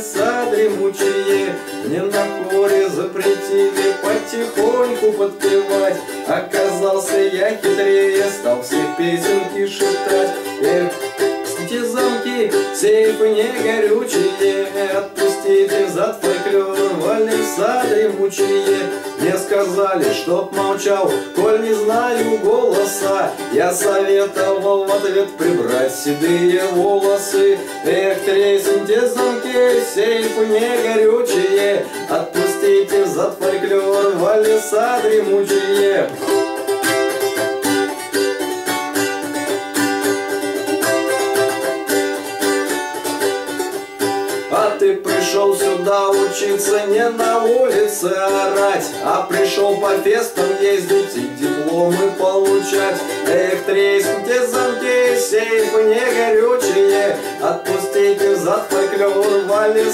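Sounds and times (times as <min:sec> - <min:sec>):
man singing: 0:00.0 - 0:37.3, 0:44.3 - 0:59.9
balalaika strummed rapidly: 0:00.0 - 0:59.9.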